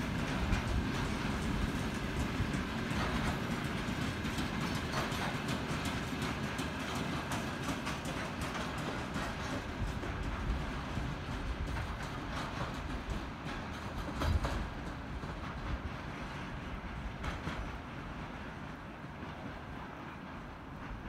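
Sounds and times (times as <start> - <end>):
steel wheels rumbling on rails: 0.0 - 21.0
wheels clicking over rail joints: 0.0 - 21.0.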